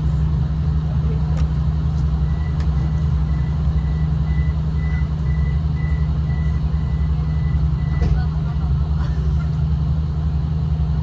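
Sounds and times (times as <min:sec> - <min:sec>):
train engine rumble: 0:00.0 - 0:11.0.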